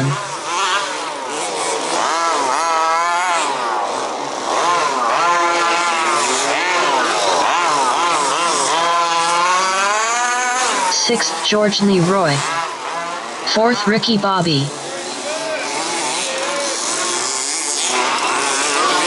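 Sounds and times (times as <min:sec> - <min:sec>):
small engines revving: 0:00.0 - 0:14.1, 0:14.7 - 0:19.0.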